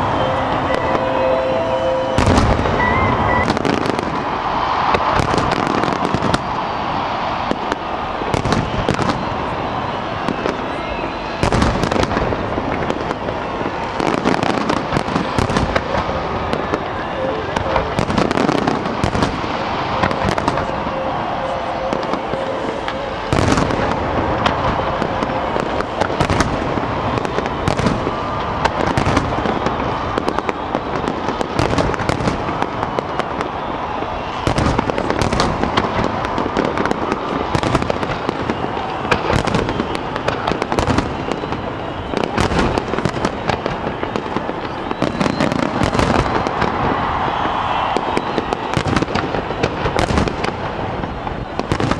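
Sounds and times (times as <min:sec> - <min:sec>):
fireworks bangs: 0:00.0 - 0:51.9.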